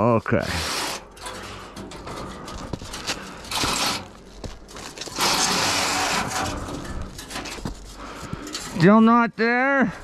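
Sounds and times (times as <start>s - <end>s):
brush scraping inside metal pipe: 0.0s - 8.9s.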